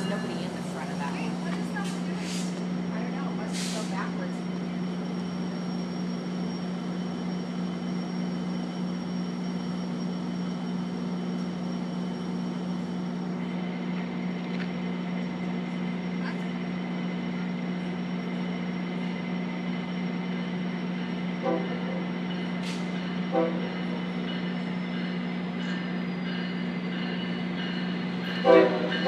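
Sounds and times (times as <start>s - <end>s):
train low drone: 0.0s - 29.0s.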